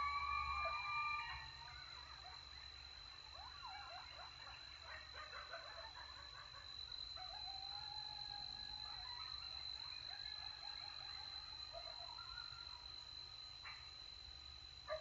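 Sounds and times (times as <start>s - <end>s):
distant coyotes howling and yipping: 0.0s - 15.0s.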